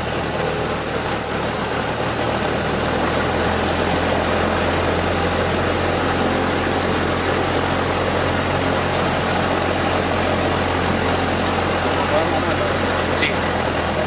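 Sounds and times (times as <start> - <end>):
propeller plane engine idling: 0.0 - 14.0.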